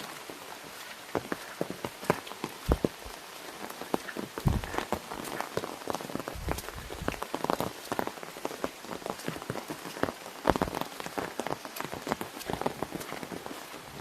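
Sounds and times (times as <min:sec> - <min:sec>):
raindrops tapping on umbrella: 0:00.0 - 0:14.0
steady hiss of rain: 0:00.0 - 0:14.0.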